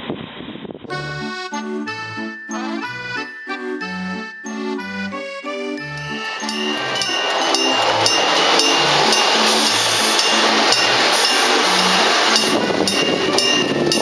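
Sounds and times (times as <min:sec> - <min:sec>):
background music with steady beat: 0:00.9 - 0:14.0
level crossing alarm bell ringing: 0:01.2 - 0:14.0.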